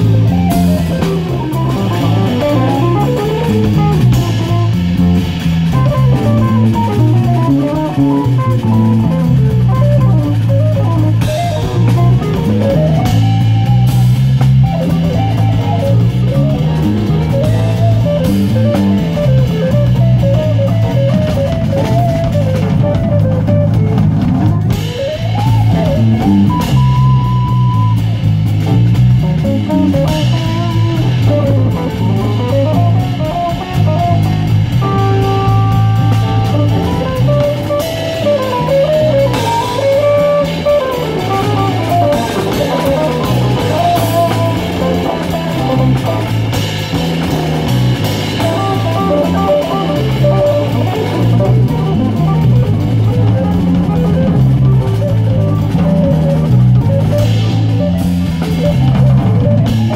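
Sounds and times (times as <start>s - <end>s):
electric bass figure: 0.0s - 59.9s
electric guitar melody: 0.0s - 59.9s
piano: 0.0s - 59.9s
steady drumming: 0.0s - 59.9s.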